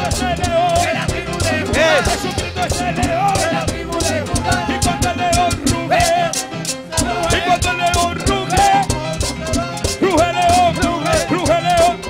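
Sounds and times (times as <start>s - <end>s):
latin worship music: 0.0s - 12.0s.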